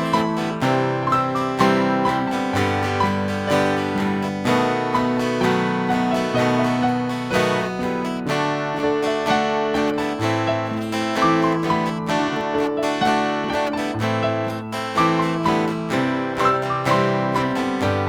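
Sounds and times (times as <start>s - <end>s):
acoustic guitar strumming chords: 0.0s - 18.0s
piano: 0.0s - 18.0s.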